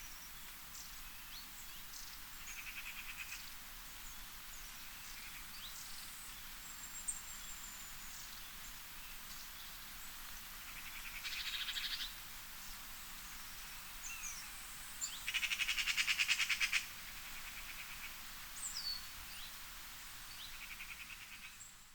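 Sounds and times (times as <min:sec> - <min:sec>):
steady hiss: 0:00.0 - 0:21.9.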